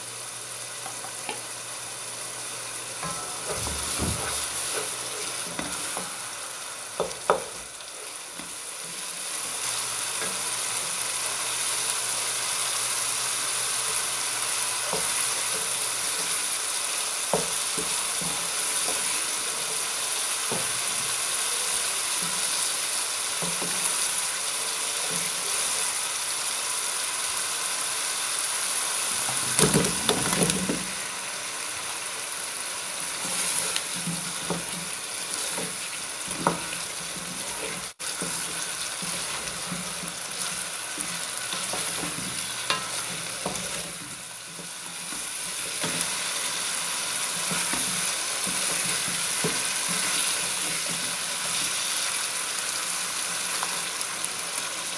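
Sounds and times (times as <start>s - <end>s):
onion sizzling in hot oil: 0.0s - 54.9s.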